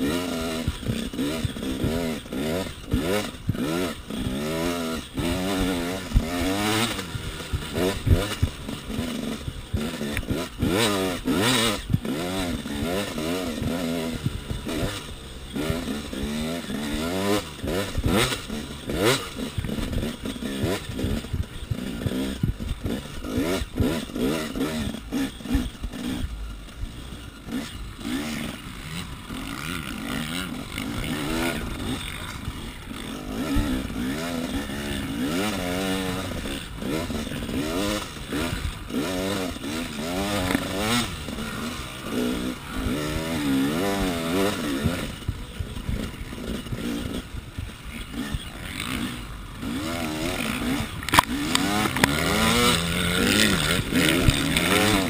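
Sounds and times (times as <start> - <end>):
two-stroke motorbike engine revving: 0.0 - 55.0.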